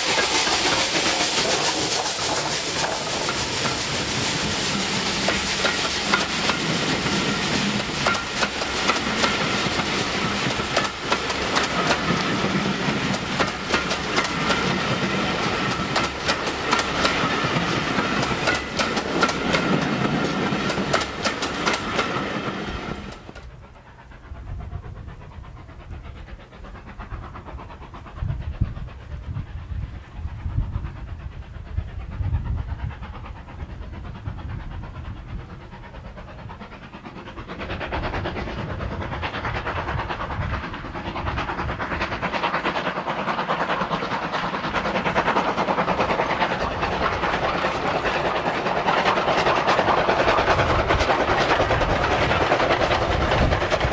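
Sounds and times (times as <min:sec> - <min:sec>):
steam hiss: 0:00.0 - 0:53.9
train wheels clickety-clack: 0:00.0 - 0:53.9.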